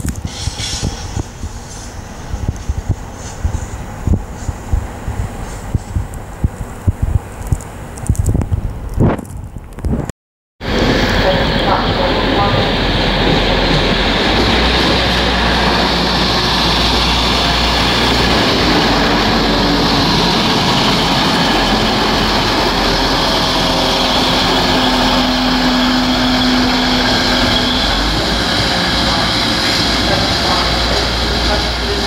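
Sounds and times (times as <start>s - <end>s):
train wheels and engine rumble: 0.0s - 32.0s.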